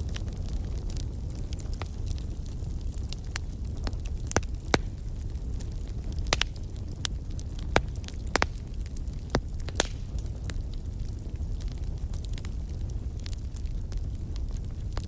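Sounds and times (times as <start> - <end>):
sharp pops of fire: 0.0 - 15.0
wood fire crackling: 0.0 - 15.0.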